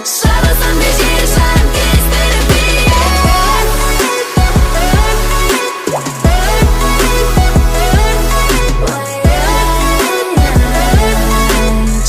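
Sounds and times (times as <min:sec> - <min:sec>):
instrumental pop music: 0:00.0 - 0:12.0
kick drum beat and bass: 0:00.2 - 0:12.0.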